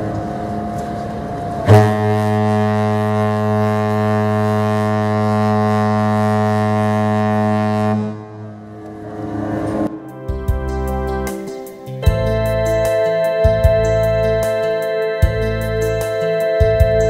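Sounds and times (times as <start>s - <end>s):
ship horn long deep blast: 0.0s - 11.3s, 12.0s - 17.0s.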